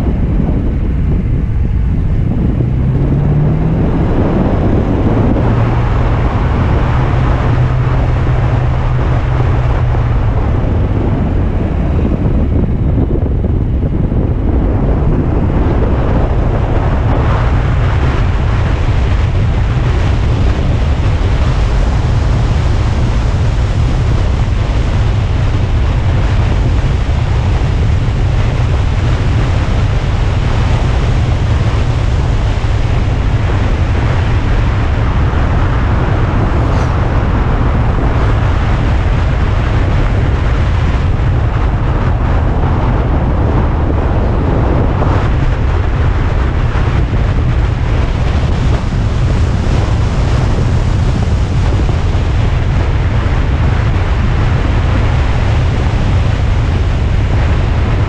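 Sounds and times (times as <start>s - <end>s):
car road and engine noise: 0.0s - 58.0s
wind buffeting microphone: 0.0s - 58.0s.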